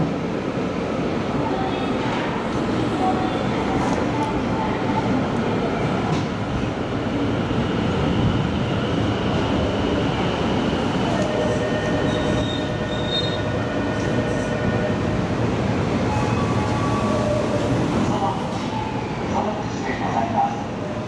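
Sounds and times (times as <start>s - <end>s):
electric train rumbling on rails: 0.0s - 21.0s.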